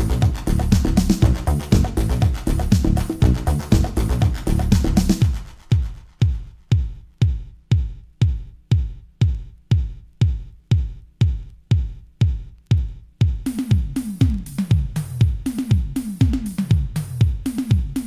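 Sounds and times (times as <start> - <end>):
hi-hats and percussion: 0.0 - 18.0
kick drum pitch sliding down: 0.0 - 18.0.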